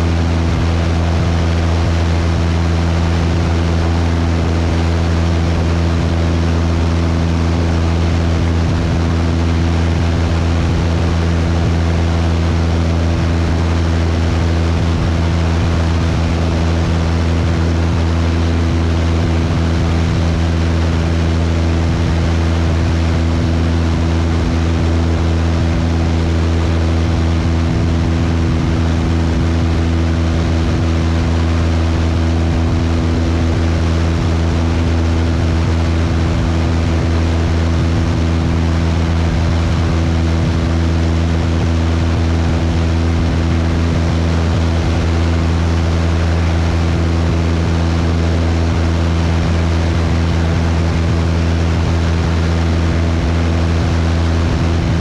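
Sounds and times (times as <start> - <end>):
airplane engine drone: 0.0 - 55.0.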